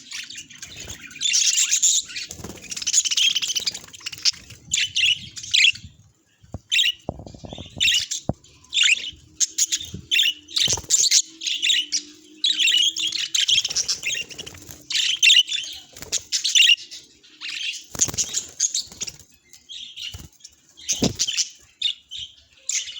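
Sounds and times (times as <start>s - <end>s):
budgerigars chirping and warbling: 0.0s - 22.9s.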